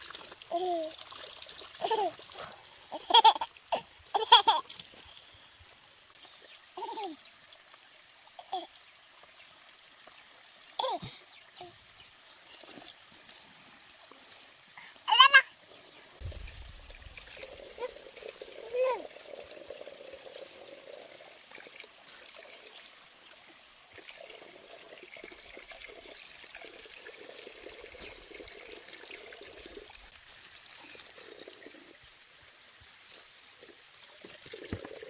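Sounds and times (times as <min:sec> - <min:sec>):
water trickling and bubbling: 0:00.0 - 0:35.0.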